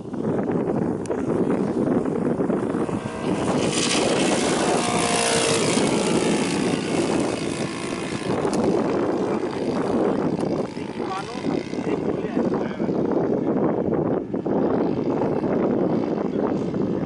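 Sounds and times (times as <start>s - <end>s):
model airplane engine running: 0.0s - 17.0s.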